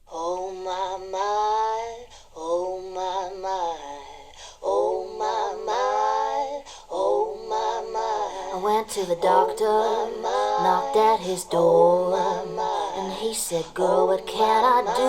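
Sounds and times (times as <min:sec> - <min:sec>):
singing through a loudspeaker: 0:00.0 - 0:15.0.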